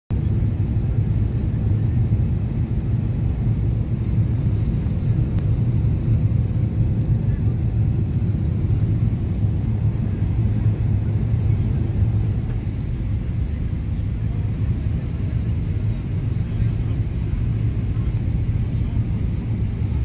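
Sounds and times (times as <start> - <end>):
airplane cabin engine rumble: 0.1 - 20.0.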